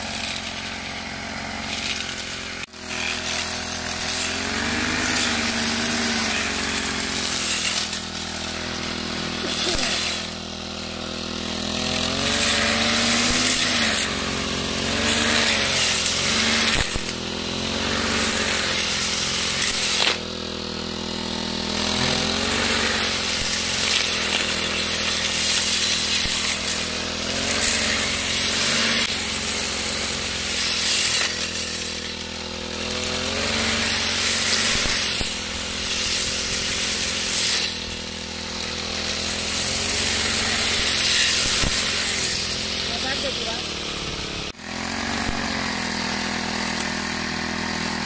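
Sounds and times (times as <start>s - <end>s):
brush cutter cutting grass: 0.0s - 48.0s.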